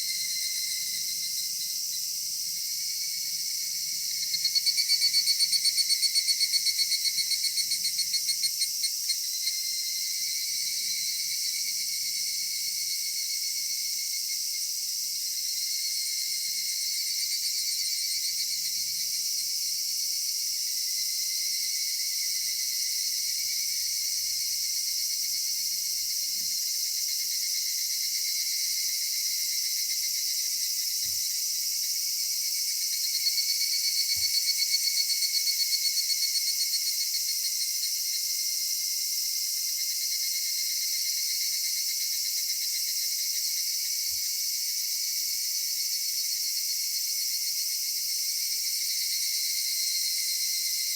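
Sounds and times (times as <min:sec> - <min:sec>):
cicadas droning: 0:00.0 - 0:50.9
pulsing cicada call: 0:00.0 - 0:50.9.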